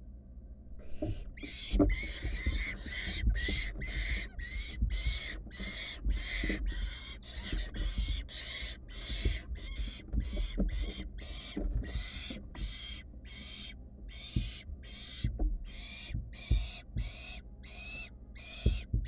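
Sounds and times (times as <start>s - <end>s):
owl chicks hissing begging calls: 0.8s - 18.9s
chicks thumping and flapping wings: 0.8s - 19.0s.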